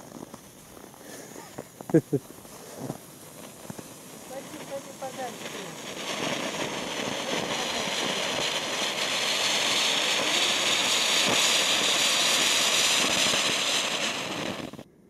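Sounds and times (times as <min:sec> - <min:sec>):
firework sparks hissing: 0:00.0 - 0:14.9
faint crackles: 0:00.0 - 0:15.0.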